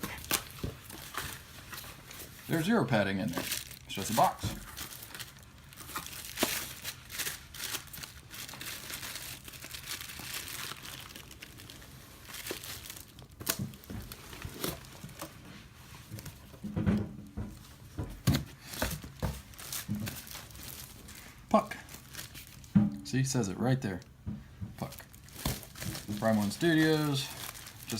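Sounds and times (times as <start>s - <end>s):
cardboard box crinkling and rustling: 0.0s - 16.6s, 17.8s - 22.7s, 24.8s - 27.9s.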